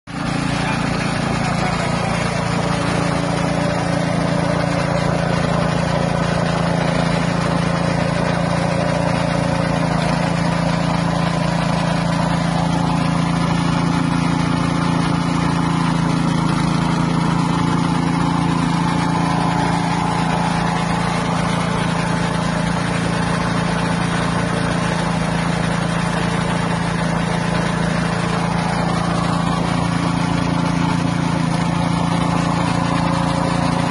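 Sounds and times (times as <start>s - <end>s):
small engine running under load: 0.1s - 33.9s.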